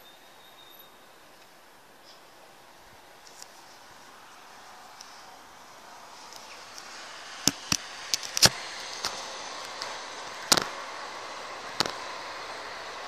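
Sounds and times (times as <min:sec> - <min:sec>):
city street background noise: 0:00.0 - 0:13.0.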